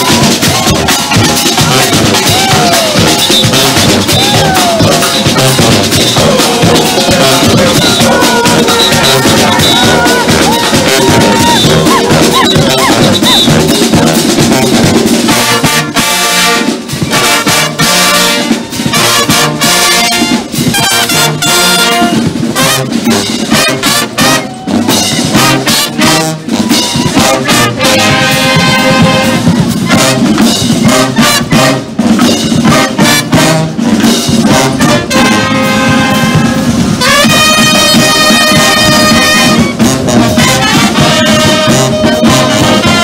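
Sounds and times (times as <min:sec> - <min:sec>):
drum beat: 0:00.0 - 0:43.0
marching band playing: 0:00.0 - 0:43.0.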